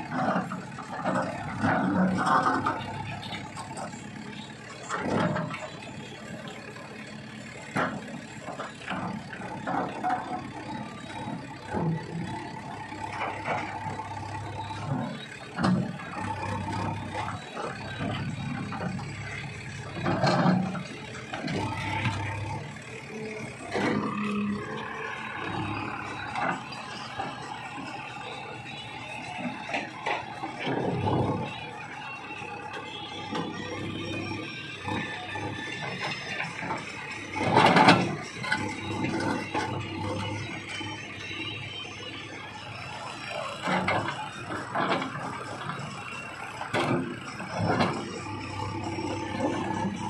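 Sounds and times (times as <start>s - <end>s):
diesel engine under load: 0.0s - 50.0s.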